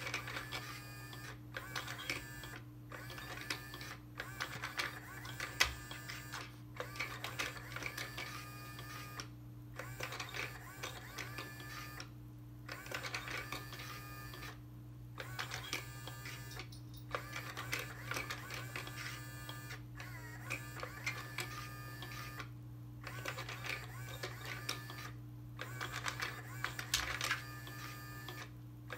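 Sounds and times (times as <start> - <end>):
toy motor whirring and clicking: 0.0 - 12.1, 12.7 - 14.6, 15.2 - 28.5.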